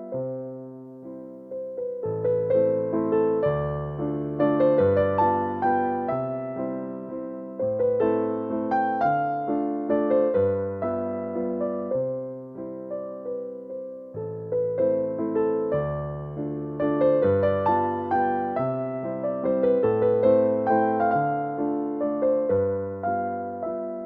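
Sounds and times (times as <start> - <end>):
soft electric piano music: 0.0 - 24.0.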